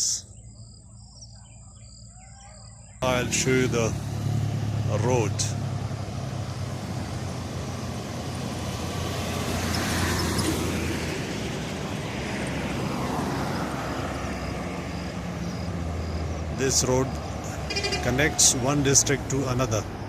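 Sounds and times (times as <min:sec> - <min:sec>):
vehicles passing: 0:00.0 - 0:20.0
low engine hum: 0:02.8 - 0:20.0.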